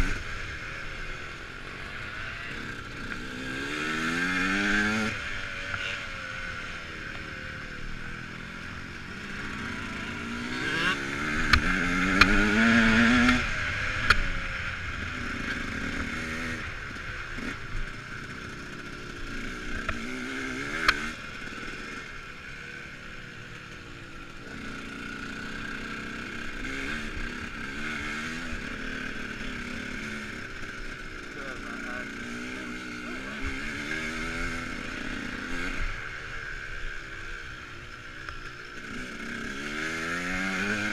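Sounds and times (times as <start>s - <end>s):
dirt bike motors revving: 0.0s - 40.9s.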